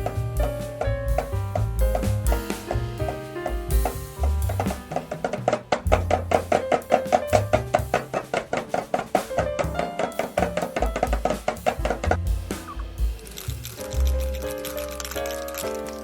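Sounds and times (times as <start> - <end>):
background music with percussion: 0.0 - 16.0.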